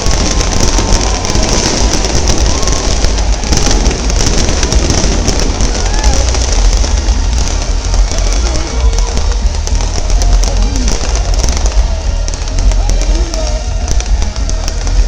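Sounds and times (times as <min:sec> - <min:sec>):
fireworks bangs and crackles: 0:00.0 - 0:15.0
low rumble of booms: 0:00.0 - 0:15.0.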